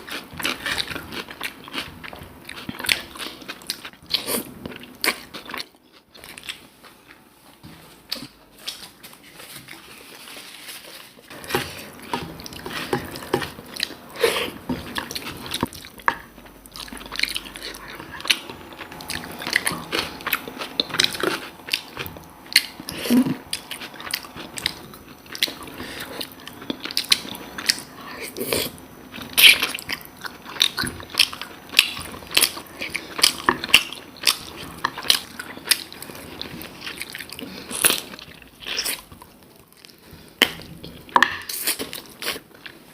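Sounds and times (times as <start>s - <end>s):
person chewing and crunching food: 0.0s - 42.9s.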